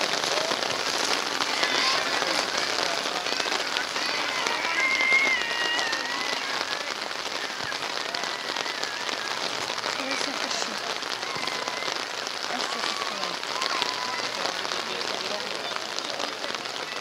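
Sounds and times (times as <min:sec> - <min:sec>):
high drawn-out call: 0:00.0 - 0:17.0
rain pattering: 0:00.0 - 0:17.0.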